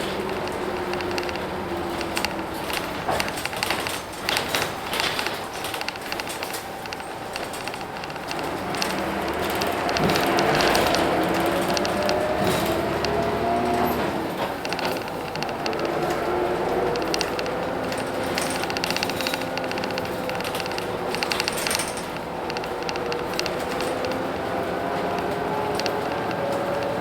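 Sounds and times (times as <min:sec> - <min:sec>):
bus diesel engine running: 0:00.0 - 0:27.0
rattles and clicks of fittings: 0:00.1 - 0:13.3, 0:14.6 - 0:24.4.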